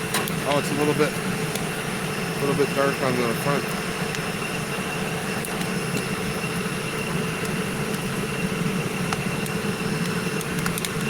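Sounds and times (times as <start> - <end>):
air blower drone: 0.0 - 11.0
coals crackling: 0.0 - 11.0.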